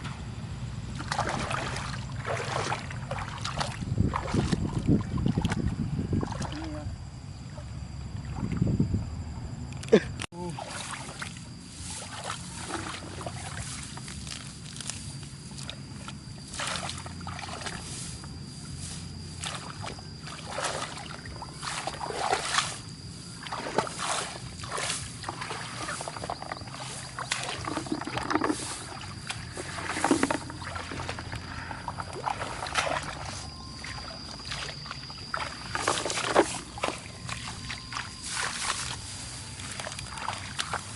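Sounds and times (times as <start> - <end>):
high-pitched whine: 0.0 - 40.9
muddy water splashing and squelching: 0.9 - 8.8, 10.3 - 40.9.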